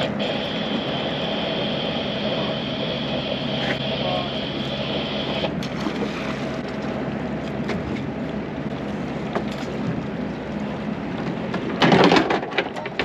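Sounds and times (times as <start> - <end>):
boat engine humming: 0.0 - 13.0
water noise: 0.0 - 13.0
wind: 0.0 - 13.0.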